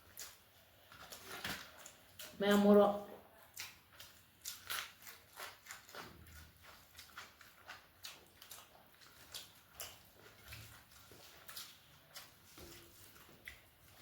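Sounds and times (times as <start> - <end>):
person chewing and smacking: 0.0 - 14.0.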